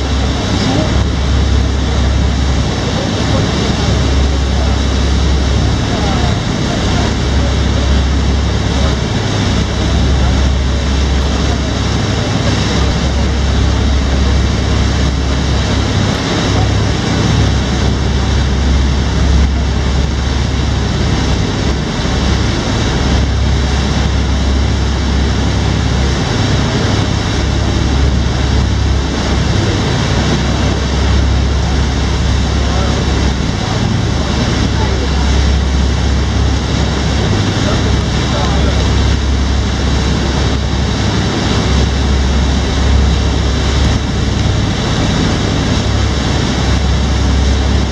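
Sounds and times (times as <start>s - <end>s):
boat engine rumble: 0.0s - 47.9s
rush of churning wake: 0.0s - 47.9s.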